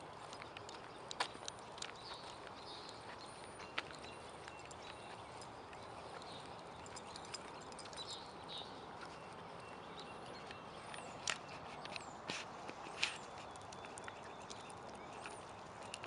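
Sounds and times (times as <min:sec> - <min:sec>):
light footsteps: 0:00.0 - 0:16.0
steady outdoor hiss: 0:00.0 - 0:16.0.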